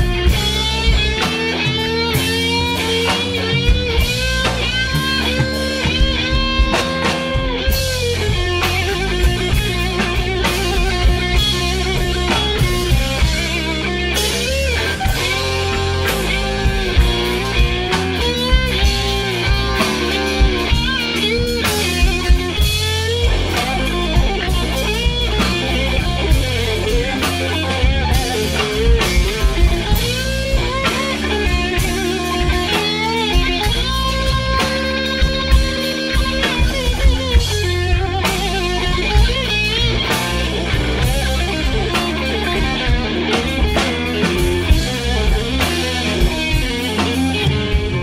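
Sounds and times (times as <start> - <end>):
bass guitar: 0.0 - 48.0
drums: 0.0 - 48.0
electric guitar solo: 0.0 - 48.0.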